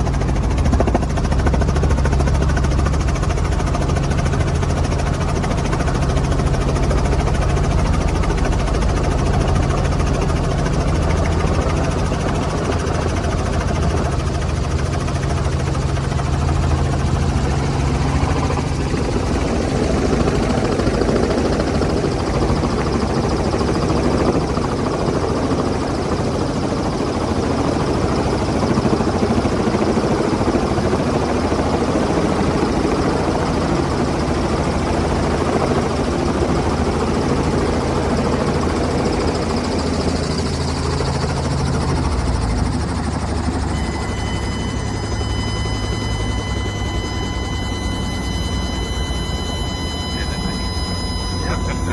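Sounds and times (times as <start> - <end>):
helicopter rotor and engine drone: 0.0 - 51.9
steady high-pitched tone: 0.0 - 51.9.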